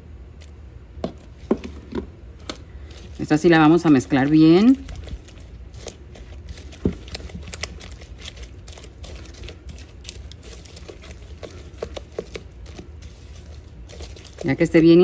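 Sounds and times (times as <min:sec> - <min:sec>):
wet sticky dough mixing: 0:00.4 - 0:15.0.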